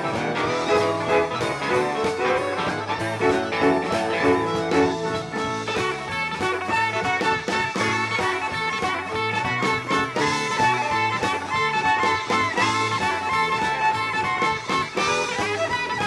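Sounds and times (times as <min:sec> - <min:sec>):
live country band playing: 0:00.0 - 0:16.0.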